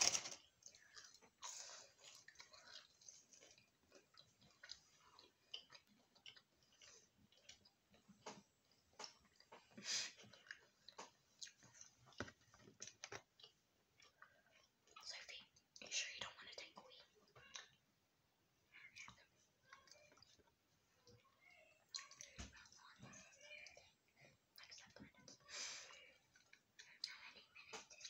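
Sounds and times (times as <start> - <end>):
faint chewing: 0.0 - 28.0.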